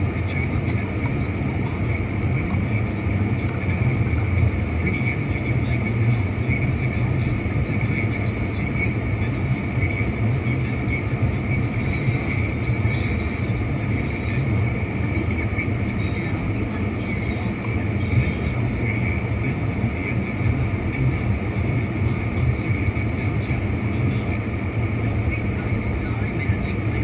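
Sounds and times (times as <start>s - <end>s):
constant higher hum: 0.0s - 27.0s
vehicle low rumble: 0.0s - 27.0s.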